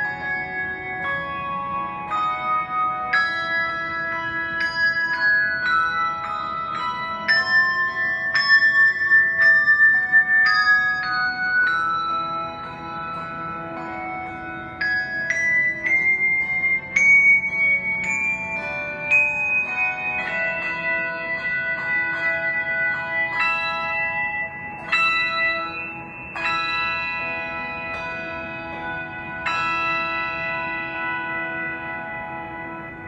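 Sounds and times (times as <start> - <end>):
handbell choir ringing chords: 0.0 - 33.0.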